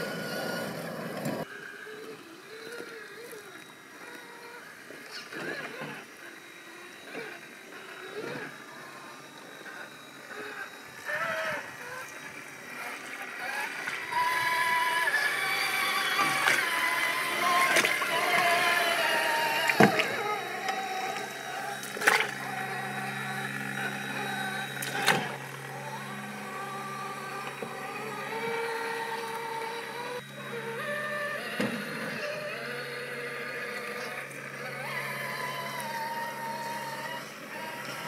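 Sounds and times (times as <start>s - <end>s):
electric motor and gears whining: 0.0s - 38.0s.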